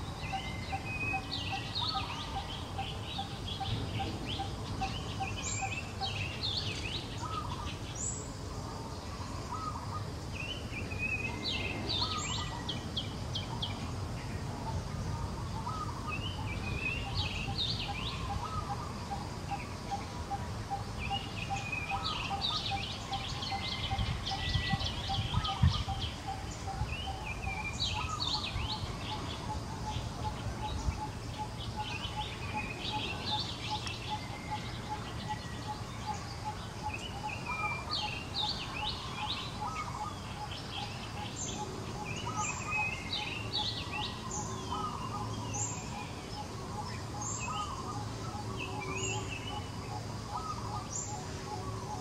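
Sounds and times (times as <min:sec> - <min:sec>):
low background noise: 0:00.0 - 0:52.0
low piping bird notes: 0:00.0 - 0:52.0.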